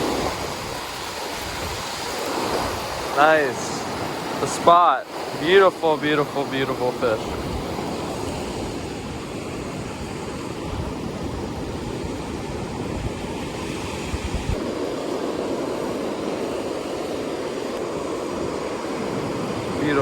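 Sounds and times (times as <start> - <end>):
ocean surf washing in: 0.0 - 20.0
wind buffeting microphone: 0.0 - 20.0.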